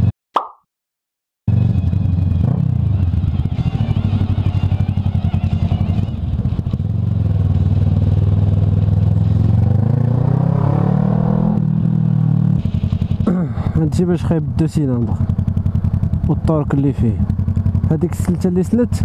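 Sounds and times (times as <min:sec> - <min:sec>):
motorcycle engine riding: 0:01.5 - 0:19.0.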